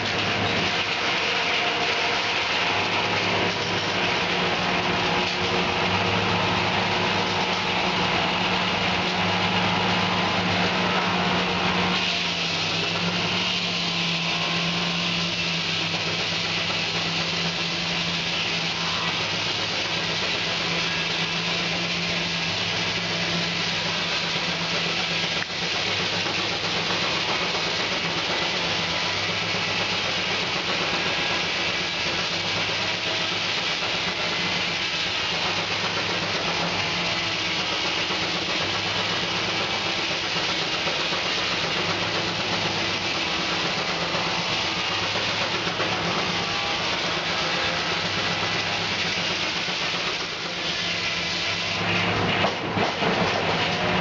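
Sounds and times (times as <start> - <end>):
steam-driven sawmill humming: 0.0 - 54.0.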